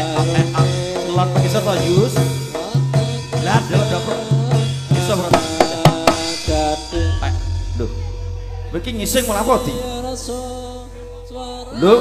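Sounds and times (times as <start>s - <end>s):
drum hits: 0.0s - 11.1s.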